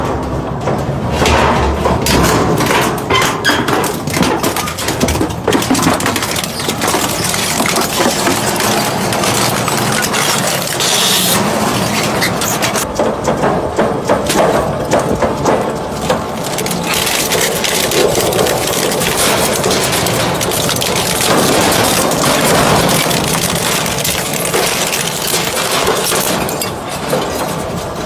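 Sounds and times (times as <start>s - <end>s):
shredder machine running: 0.8s - 28.0s
shredder crushing material: 1.0s - 28.0s.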